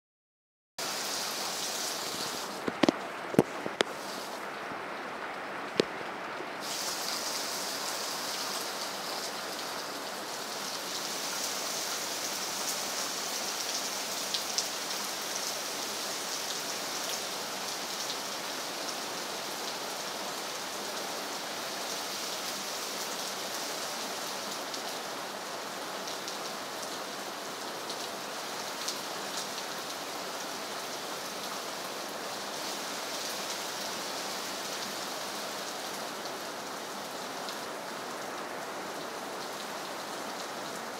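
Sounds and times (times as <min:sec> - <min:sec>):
rain on leafy trees: 0:00.8 - 0:40.9.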